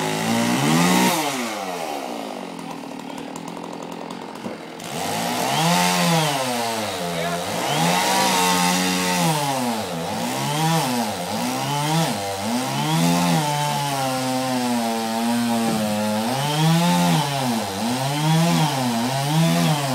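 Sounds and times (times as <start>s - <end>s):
chainsaw revving: 0.0s - 19.9s.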